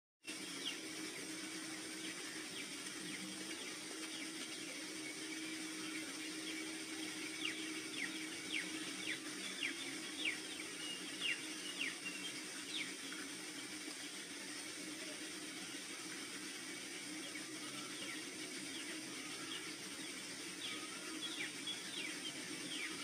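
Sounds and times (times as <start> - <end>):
bird chirping: 0.3 - 13.4, 17.2 - 23.0
low ambient hum: 0.3 - 23.0.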